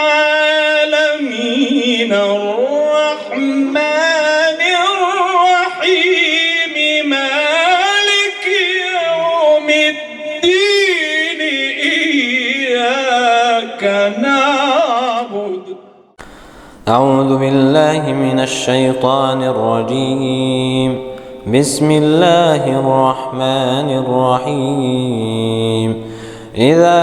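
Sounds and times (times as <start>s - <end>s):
person chanting melodic recitation: 0.0s - 15.8s, 16.8s - 27.0s.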